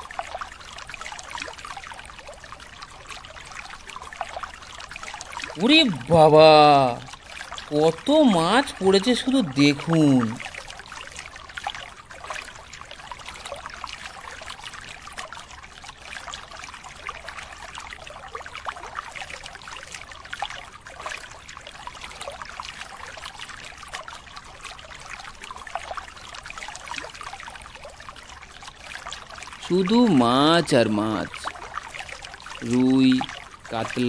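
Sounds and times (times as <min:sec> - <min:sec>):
water streaming off net: 0:00.0 - 0:34.0.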